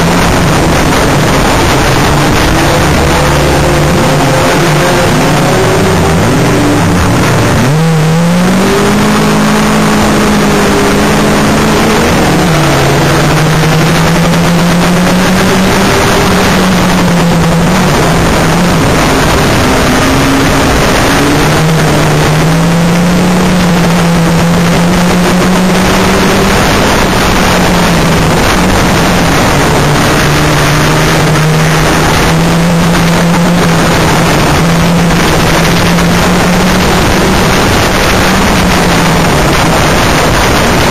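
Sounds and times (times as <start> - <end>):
racing car engine: 0.0 - 40.9.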